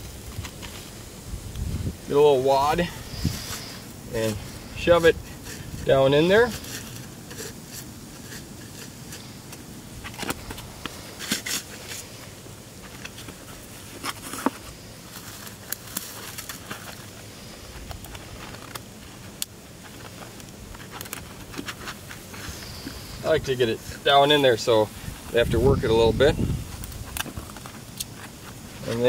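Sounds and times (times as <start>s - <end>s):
dry grass rustling: 0.0s - 29.0s.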